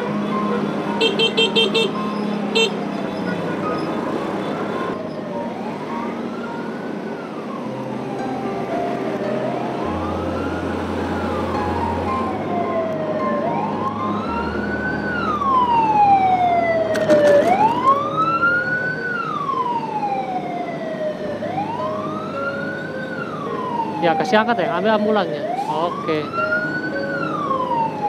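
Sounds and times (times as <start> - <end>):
emergency vehicle siren wailing: 0.0 - 28.0
engine and road noise: 0.0 - 28.0.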